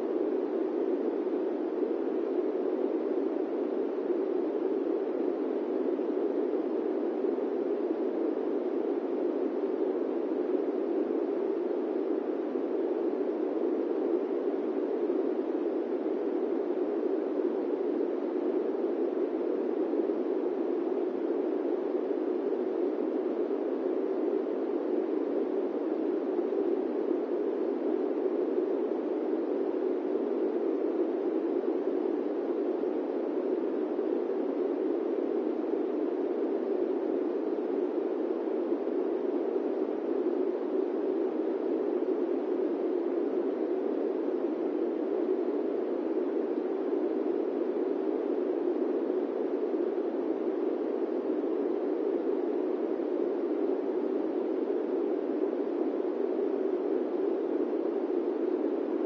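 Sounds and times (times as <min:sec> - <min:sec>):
airplane cabin white noise: 0:00.0 - 0:59.0.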